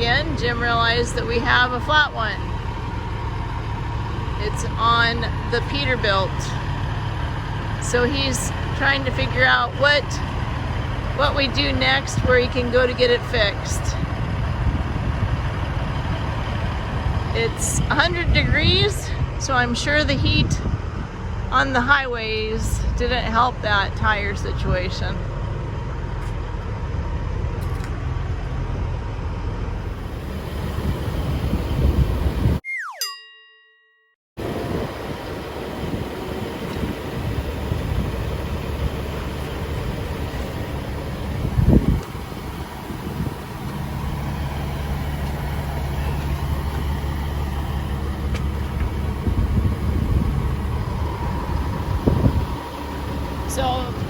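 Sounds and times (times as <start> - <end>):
motor vehicle rumble: 0.0 - 32.6, 34.4 - 54.0
truck engine idling: 0.0 - 32.6, 34.4 - 54.0.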